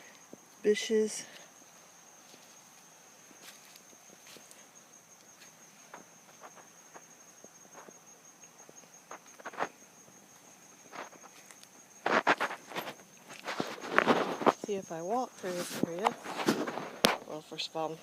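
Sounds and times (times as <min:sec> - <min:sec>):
high insect trill: 0:00.0 - 0:18.0
footsteps crackling through twigs: 0:01.3 - 0:17.4.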